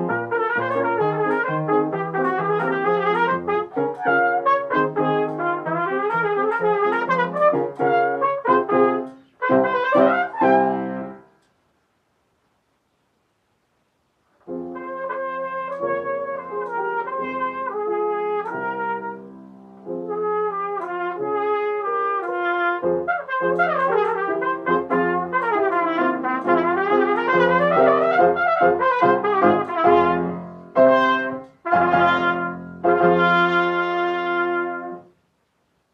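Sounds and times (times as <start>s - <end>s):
solo trumpet: 0.0s - 11.4s, 14.5s - 35.2s.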